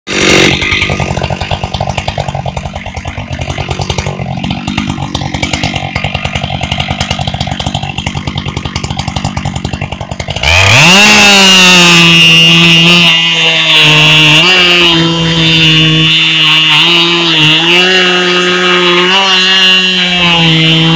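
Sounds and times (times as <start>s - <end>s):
chainsaw idling and revving: 0.1s - 20.9s.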